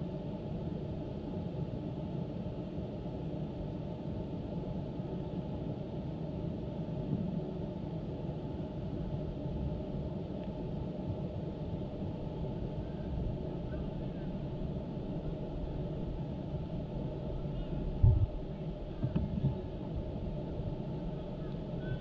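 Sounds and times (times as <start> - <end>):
steady low rumbling noise: 0.0 - 22.0.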